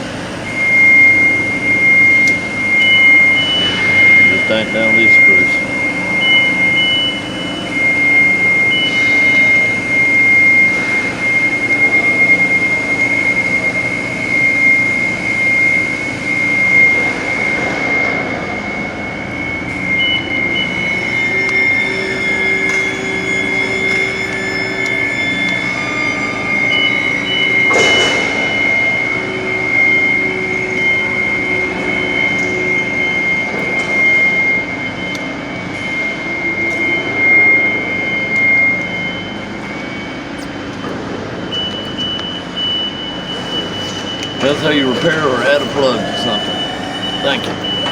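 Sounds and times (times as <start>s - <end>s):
high-pitched mechanical whine: 0.0s - 47.9s.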